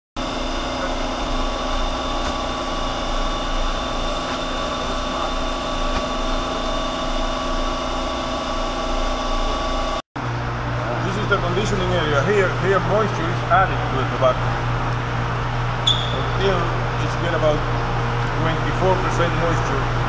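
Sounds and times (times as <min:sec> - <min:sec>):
steady machine hum: 0:00.2 - 0:20.0.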